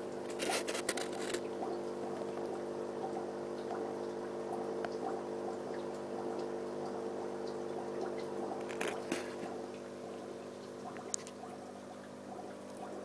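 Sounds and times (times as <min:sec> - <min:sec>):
aquarium pump humming: 0:00.0 - 0:13.0
water trickling and dripping: 0:01.4 - 0:13.0.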